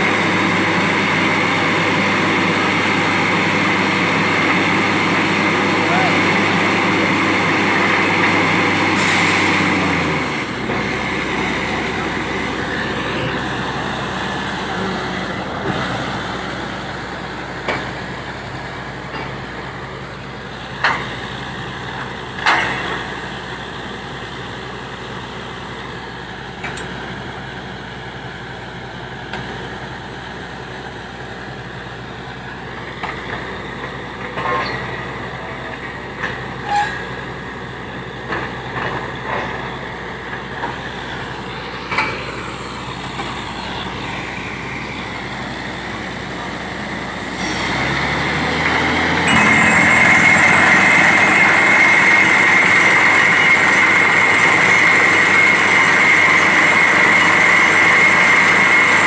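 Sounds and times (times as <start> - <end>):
drilling rig engine running: 0.0 - 59.0.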